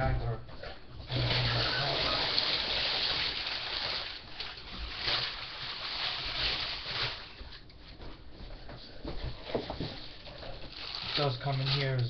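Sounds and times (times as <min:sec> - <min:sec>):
packing paper rustling: 0:01.1 - 0:08.1, 0:09.2 - 0:12.0.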